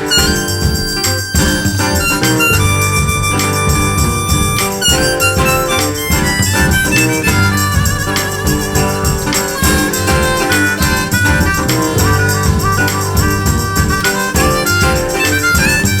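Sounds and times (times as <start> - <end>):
acoustic guitar: 0.0 - 16.0
drums: 0.0 - 16.0
harmonica: 0.0 - 16.0
double bass: 1.4 - 15.0.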